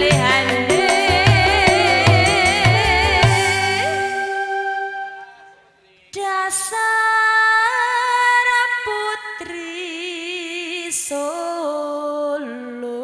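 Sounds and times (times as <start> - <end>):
woman singing into a microphone: 0.0 - 5.1, 6.1 - 13.0.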